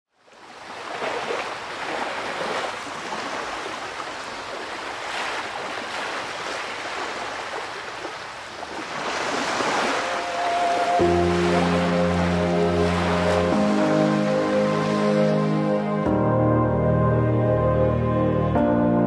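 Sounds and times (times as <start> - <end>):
waves washing on shore: 0.2 - 15.7.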